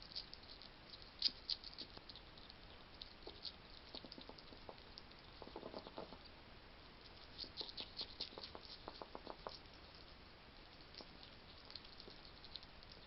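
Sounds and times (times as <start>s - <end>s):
hedgehog chewing and crunching food: 0.0s - 6.4s, 7.0s - 13.0s.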